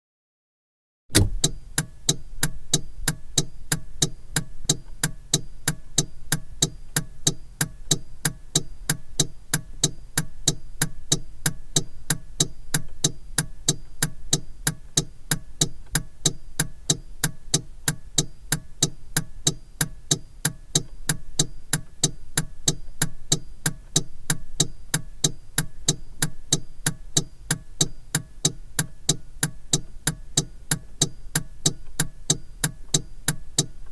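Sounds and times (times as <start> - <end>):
turn signal clicking: 1.1 - 33.9.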